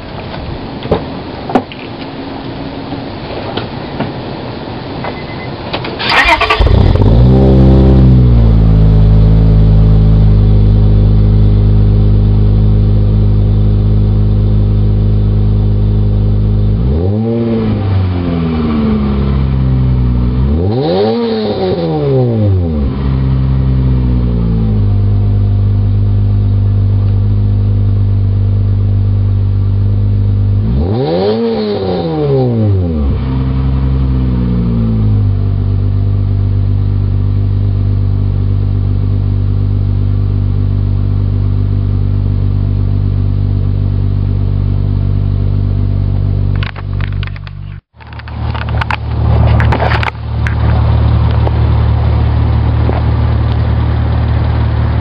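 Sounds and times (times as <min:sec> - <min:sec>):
car exhaust idling and revving: 0:06.2 - 0:55.0.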